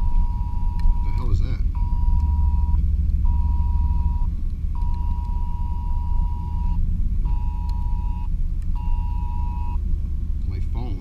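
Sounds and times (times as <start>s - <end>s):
smartphone emergency alert beeps: 0.0s - 9.8s
truck engine running: 0.0s - 11.0s.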